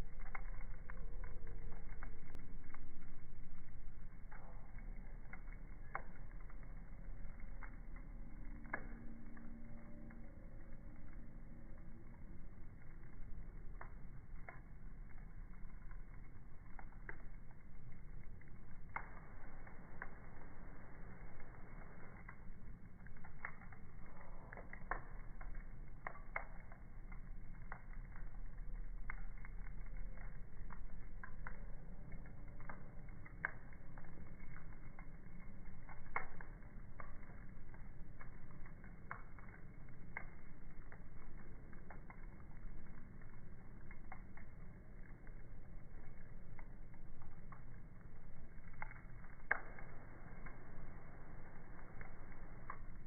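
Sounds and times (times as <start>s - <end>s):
sharp pops and snaps: 0.0s - 53.0s
wood fire crackling: 0.0s - 53.0s.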